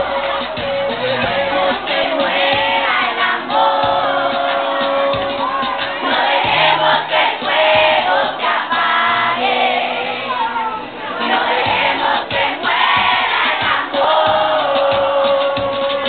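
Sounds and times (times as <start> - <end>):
crowd noise: 0.0 - 16.0
crowd of young voices singing: 0.0 - 16.0.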